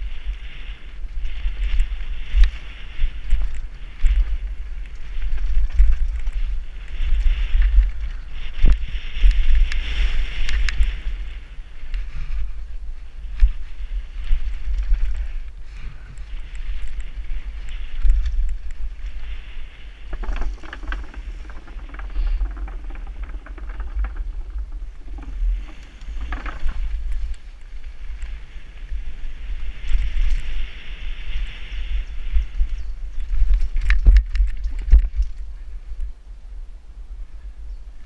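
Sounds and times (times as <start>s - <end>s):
bike rattling on a dirt trail: 0.0s - 36.0s
wind rumbling over a camera: 0.0s - 38.0s.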